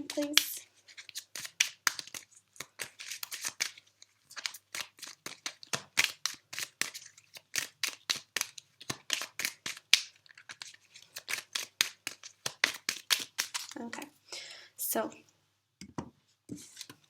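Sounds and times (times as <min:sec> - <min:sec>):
cards being shuffled: 0:00.0 - 0:13.9, 0:16.5 - 0:17.0.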